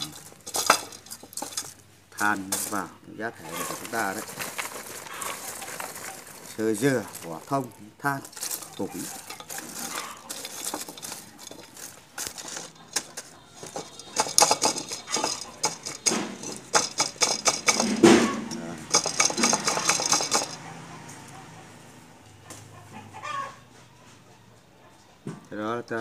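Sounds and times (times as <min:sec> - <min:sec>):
bark chips and charcoal clattering: 0:00.0 - 0:21.6.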